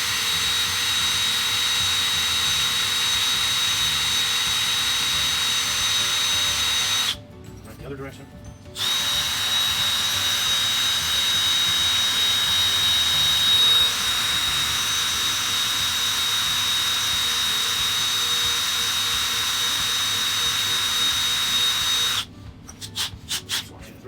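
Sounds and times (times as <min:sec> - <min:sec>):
rotary tool high whine: 0:00.0 - 0:07.2, 0:08.8 - 0:23.0.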